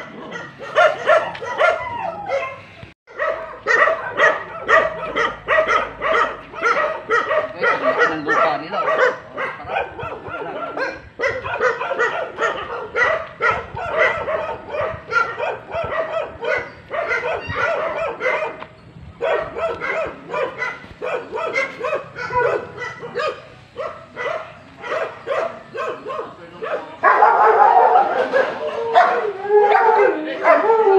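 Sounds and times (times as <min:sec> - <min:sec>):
dogs barking and yipping: 0:00.0 - 0:30.9.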